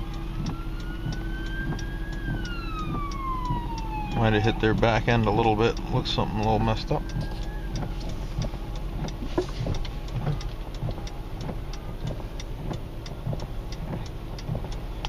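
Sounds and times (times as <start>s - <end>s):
car cabin hum: 0.0s - 15.0s
light ticks and taps: 0.0s - 15.0s.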